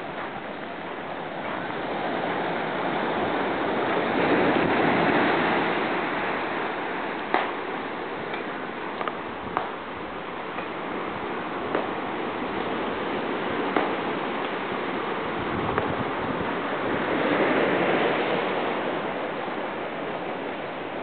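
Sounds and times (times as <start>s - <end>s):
waves washing onto sand: 0.0s - 21.0s.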